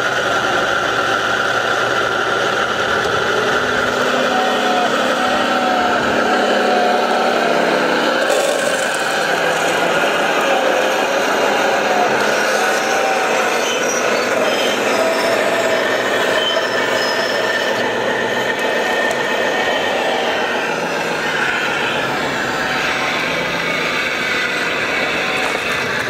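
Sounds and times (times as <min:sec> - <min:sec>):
hydraulic pump whine: 0:00.0 - 0:26.0.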